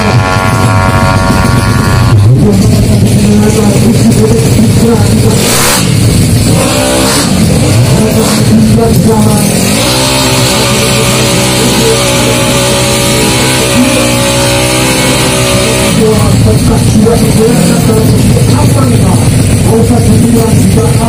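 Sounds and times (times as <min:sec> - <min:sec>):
scooter engine revving: 0:00.0 - 0:21.0.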